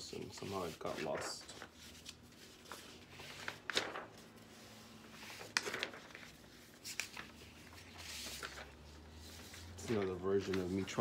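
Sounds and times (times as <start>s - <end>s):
paper rustling and slapping: 0.0s - 11.0s.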